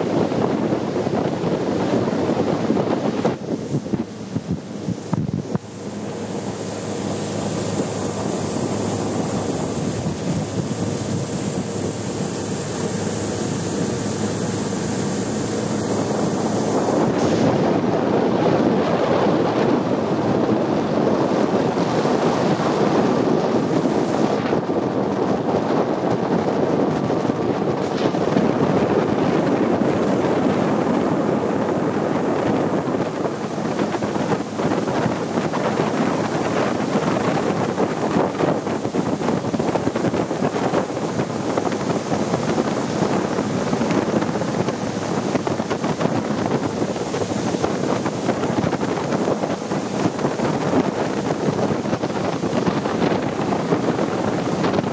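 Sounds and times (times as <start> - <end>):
boat engine running: 0.0 - 54.9
water rushing past hull: 0.0 - 54.9
wind buffeting microphone: 0.0 - 54.9.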